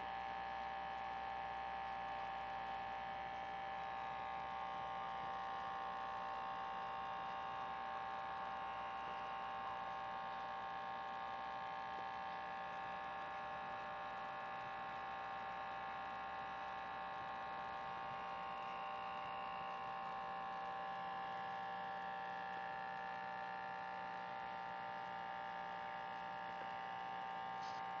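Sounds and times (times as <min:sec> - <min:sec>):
high electrical hum: 0:00.0 - 0:28.0.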